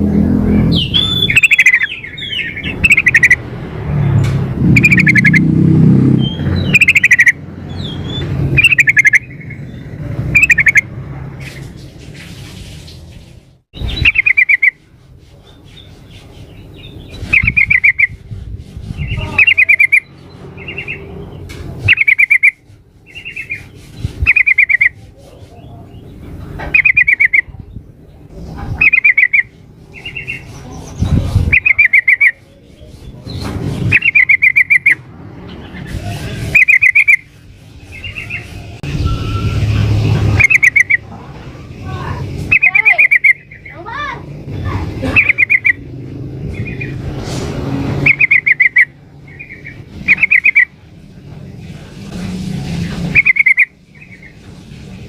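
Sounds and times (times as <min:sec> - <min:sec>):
bird chirping: 0:00.1 - 0:11.7, 0:13.7 - 0:18.2, 0:18.9 - 0:47.0, 0:48.0 - 0:50.8, 0:52.8 - 0:54.4.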